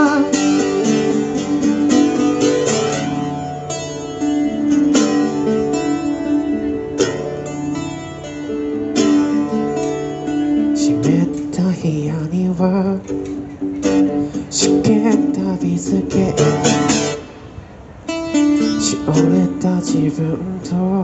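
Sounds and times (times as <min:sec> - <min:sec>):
strummed guitar chords: 0:00.0 - 0:21.0.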